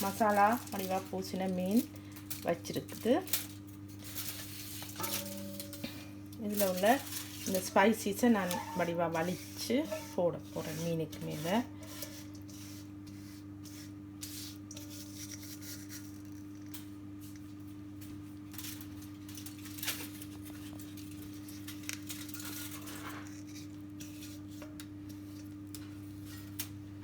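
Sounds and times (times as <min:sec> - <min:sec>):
scraping and rubbing marinade: 0:00.0 - 0:17.4, 0:18.9 - 0:26.5
steady low hum: 0:00.0 - 0:27.0.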